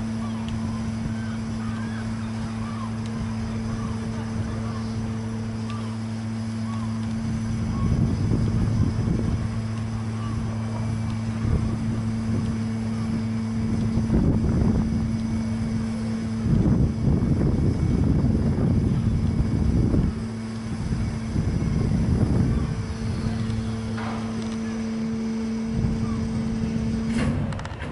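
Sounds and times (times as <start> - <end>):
drawbridge machinery humming: 0.0 - 27.9
wind buffeting microphone: 0.0 - 27.9.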